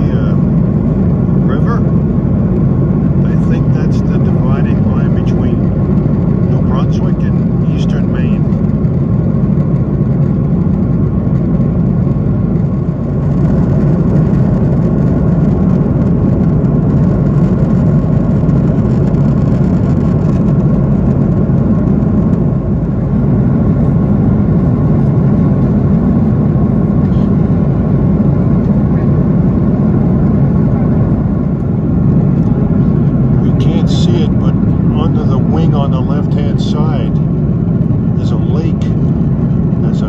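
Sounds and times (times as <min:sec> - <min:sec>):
jet airliner cabin drone: 0:00.0 - 0:40.0.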